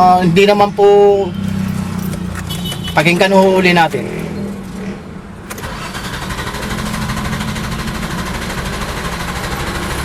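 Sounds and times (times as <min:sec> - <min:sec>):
engine cranking: 0:01.4 - 0:10.0.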